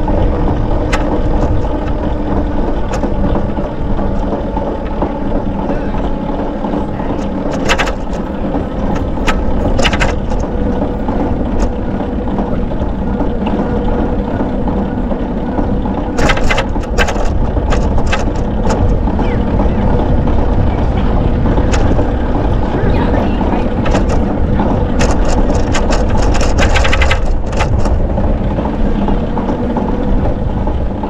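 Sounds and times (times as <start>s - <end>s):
tyres rumbling on pavement: 0.0s - 31.0s
wind on microphone: 0.0s - 31.0s.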